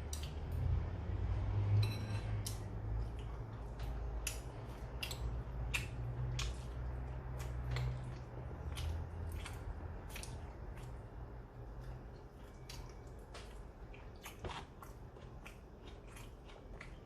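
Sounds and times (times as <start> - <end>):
person chewing food: 2.3 - 17.0.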